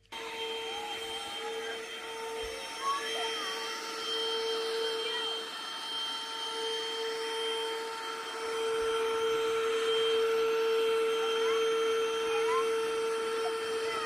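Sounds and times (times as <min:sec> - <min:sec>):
toy vacuum cleaner motor whine: 0:00.0 - 0:14.0.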